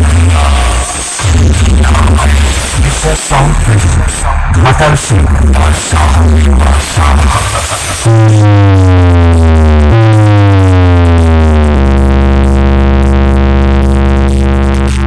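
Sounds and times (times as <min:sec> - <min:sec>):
electronic dance music with heavy bass: 0:00.0 - 0:15.0.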